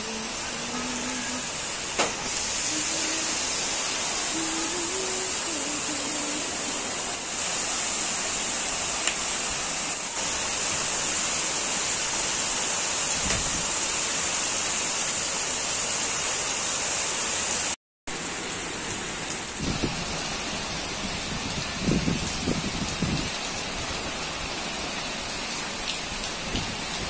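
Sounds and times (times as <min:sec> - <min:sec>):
heavy rain on foliage: 0:00.0 - 0:27.0.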